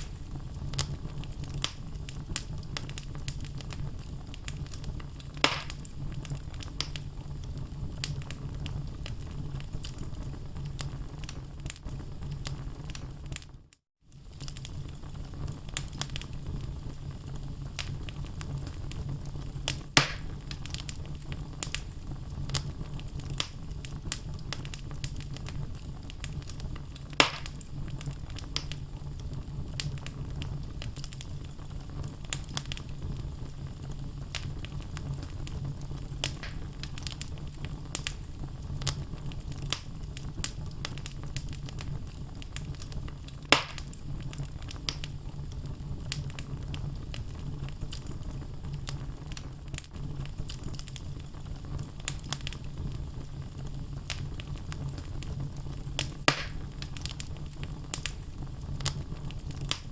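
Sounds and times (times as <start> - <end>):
burning logs popping: 0.0 - 59.9
low rumble of flames: 0.0 - 59.9
wood fire crackling: 0.0 - 59.9.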